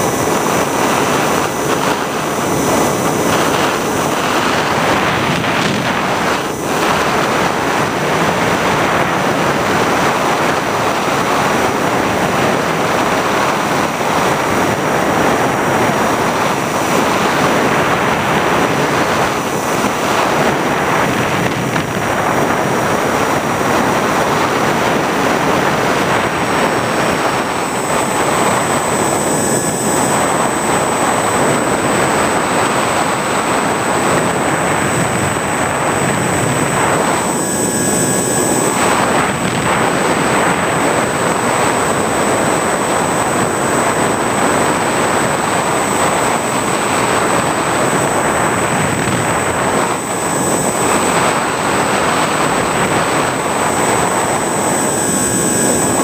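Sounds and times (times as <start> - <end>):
thin high whine: 0.0 - 56.0
wind and propeller noise: 0.0 - 56.0.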